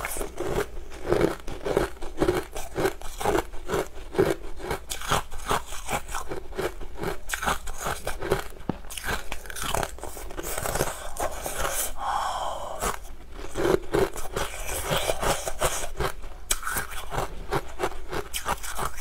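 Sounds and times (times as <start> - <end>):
crunching and chewing ice: 0.0 - 19.0.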